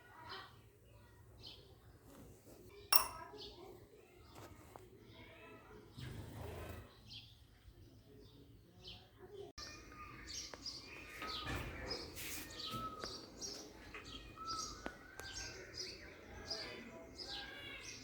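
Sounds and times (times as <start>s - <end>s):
small birds chirping: 0.0s - 6.0s, 6.9s - 18.0s.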